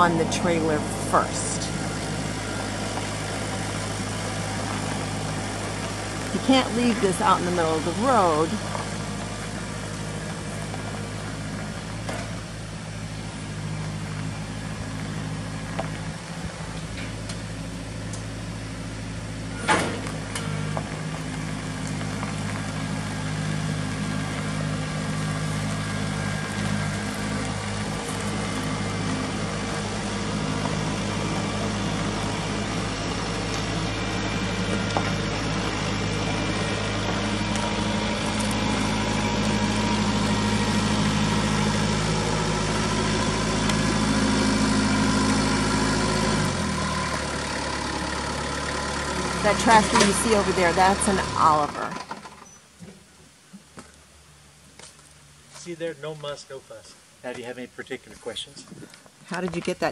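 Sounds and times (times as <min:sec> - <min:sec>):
tractor diesel engine running: 0:00.0 - 0:57.6.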